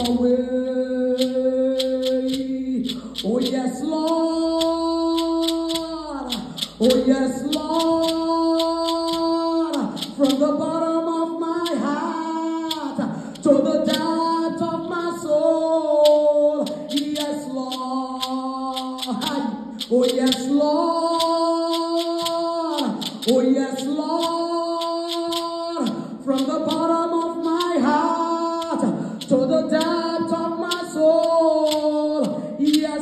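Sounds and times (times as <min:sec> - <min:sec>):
woman singing gospel: 0:00.0 - 0:02.5, 0:03.2 - 0:33.0.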